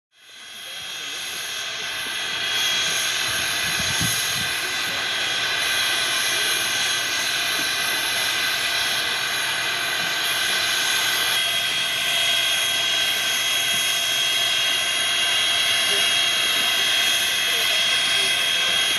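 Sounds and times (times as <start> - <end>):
steam locomotive hissing steam: 0.2 - 18.9
high whine: 0.3 - 18.9.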